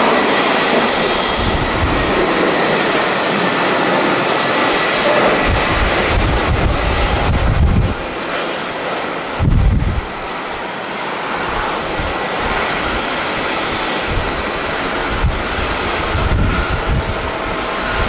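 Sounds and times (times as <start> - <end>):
wind buffeting microphone: 0.0 - 10.6, 11.2 - 18.0
jet engines rushing: 0.0 - 18.0.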